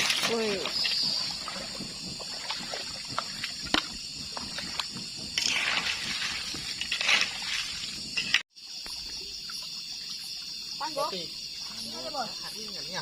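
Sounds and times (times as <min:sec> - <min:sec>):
water trickling and sloshing: 0:00.0 - 0:13.0.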